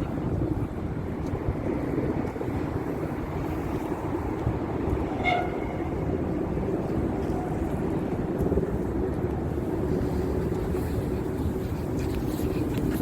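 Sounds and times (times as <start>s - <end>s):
cable car rumbling: 0.0s - 13.0s.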